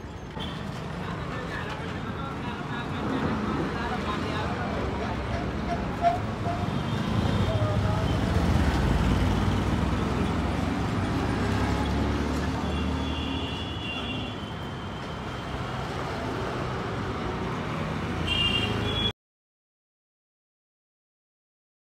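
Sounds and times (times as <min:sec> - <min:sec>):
road traffic rumble: 0:00.0 - 0:19.1.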